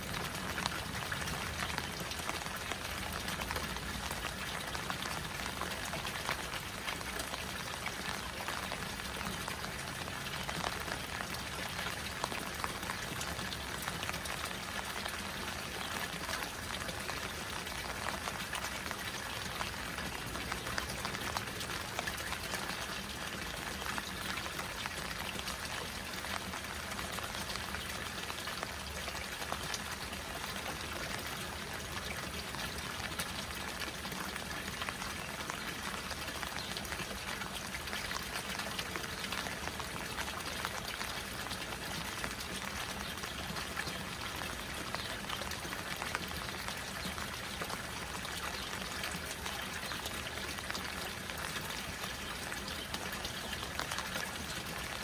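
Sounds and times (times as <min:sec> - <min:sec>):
rain on a pond: 0:00.0 - 0:55.0
water pouring from a spout: 0:00.0 - 0:55.0.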